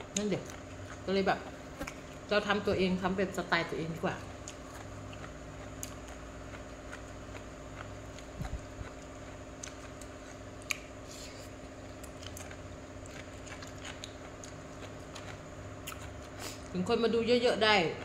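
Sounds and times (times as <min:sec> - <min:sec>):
person chewing food: 0:00.0 - 0:02.3, 0:04.2 - 0:16.7
electric fan hum: 0:00.0 - 0:18.0.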